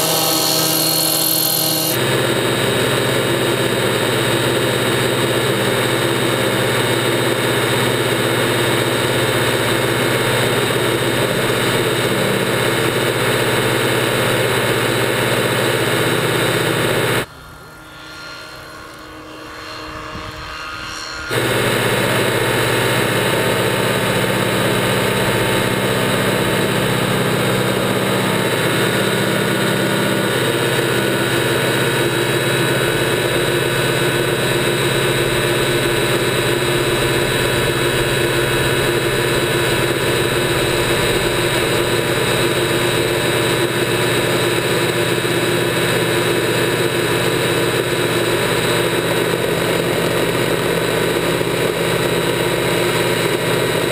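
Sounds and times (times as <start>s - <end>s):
model helicopter rotor drone: 0.0s - 53.9s.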